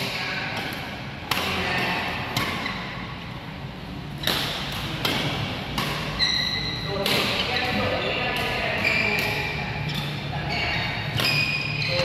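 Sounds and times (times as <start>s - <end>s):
racket striking shuttlecock: 0.0s - 3.0s, 4.1s - 10.2s, 10.8s - 12.0s.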